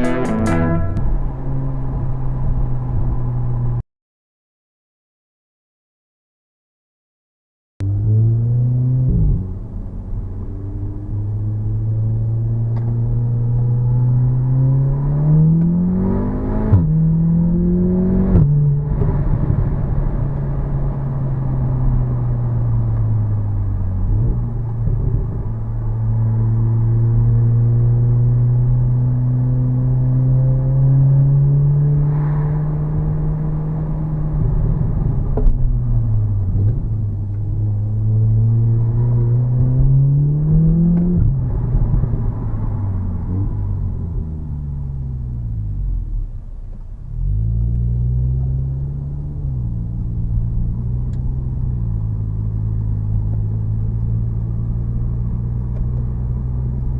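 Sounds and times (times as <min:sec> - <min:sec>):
car engine accelerating: 0:00.0 - 0:03.8, 0:07.8 - 0:56.9.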